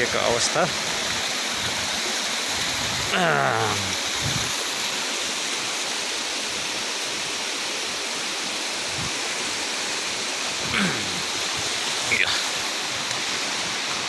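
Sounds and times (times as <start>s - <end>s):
river flowing: 0.0s - 14.0s.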